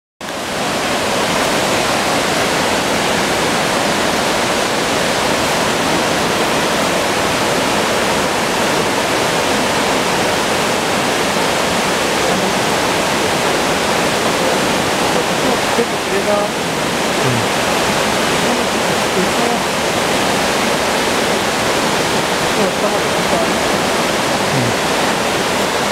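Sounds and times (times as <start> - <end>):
waterfall rushing: 0.2 - 25.9.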